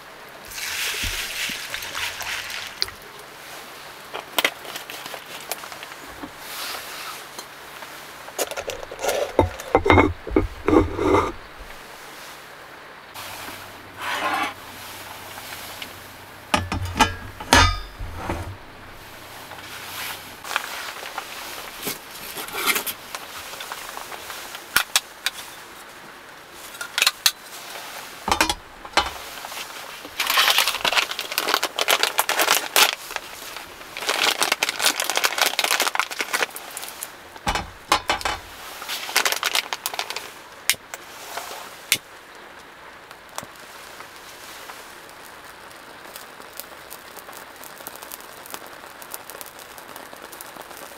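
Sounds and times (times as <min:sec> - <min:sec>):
rustling: 0:00.5 - 0:12.5, 0:13.1 - 0:42.0, 0:42.6 - 0:48.6.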